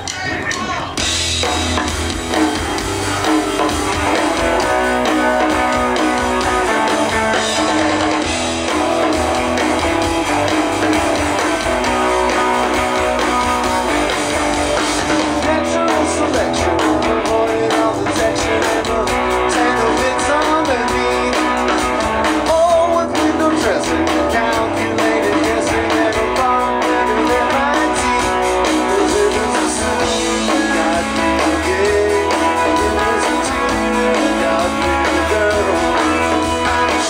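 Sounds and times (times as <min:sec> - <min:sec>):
bass guitar: 0:00.0 - 0:37.0
guitars strumming: 0:00.0 - 0:37.0
live rock band playing: 0:00.0 - 0:37.0.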